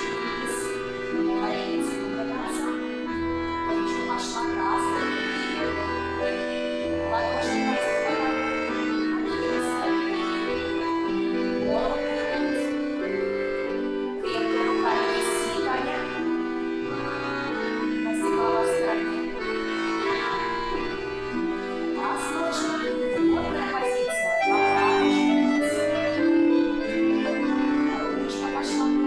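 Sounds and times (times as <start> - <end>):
accordion playing folk dance tune: 0.0 - 29.0.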